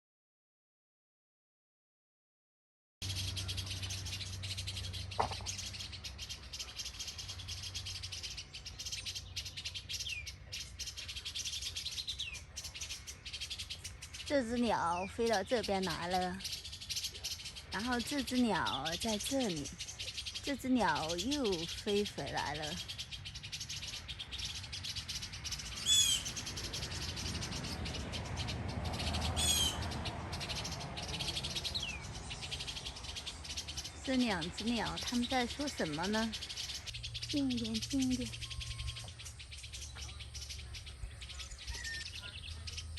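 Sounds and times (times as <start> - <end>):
songbirds chipping alarm calls: 3.0 - 42.9.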